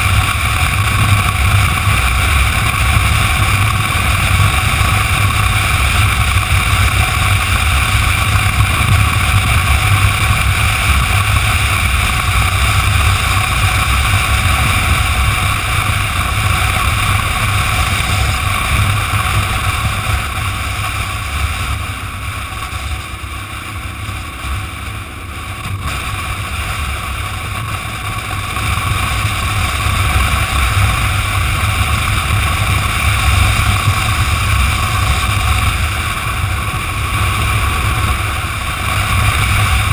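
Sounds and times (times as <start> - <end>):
motorcycle engine and tyre drone: 0.0 - 39.9
wind noise rushing: 0.0 - 39.9.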